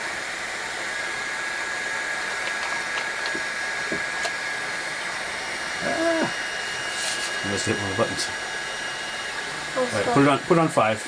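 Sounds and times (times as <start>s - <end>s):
cooling fans whirring: 0.0s - 11.0s
thin steady whine: 0.0s - 11.0s.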